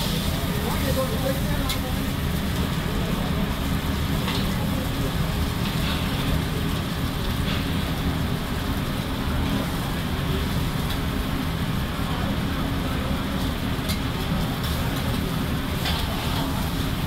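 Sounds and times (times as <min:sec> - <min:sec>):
meat sizzling on griddle: 0:00.0 - 0:17.0.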